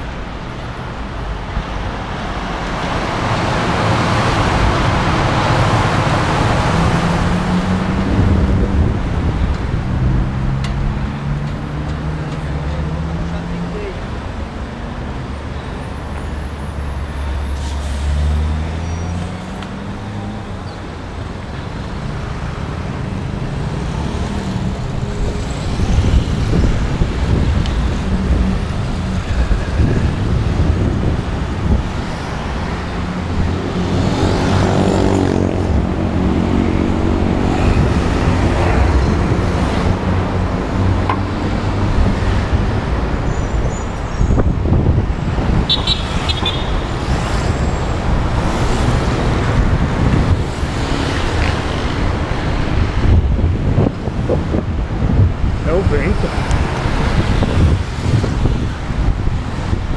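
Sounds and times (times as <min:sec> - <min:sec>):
heavy vehicle engine: 0:00.0 - 0:59.9
road traffic rumble: 0:00.0 - 0:59.9.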